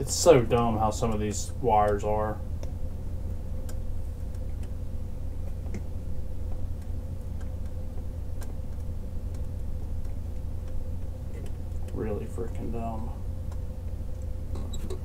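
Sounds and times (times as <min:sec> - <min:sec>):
faint ticks and clicks of handling: 0:00.0 - 0:15.0
steady low hum: 0:00.0 - 0:15.0.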